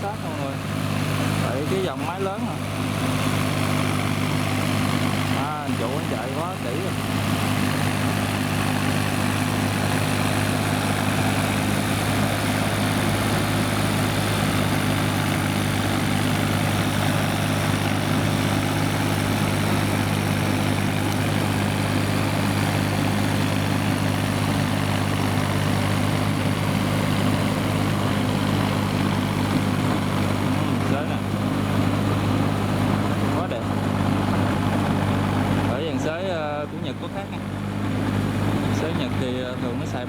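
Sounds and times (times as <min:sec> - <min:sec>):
rotary tiller working: 0:00.0 - 0:40.0
tractor diesel engine drone: 0:00.0 - 0:40.0.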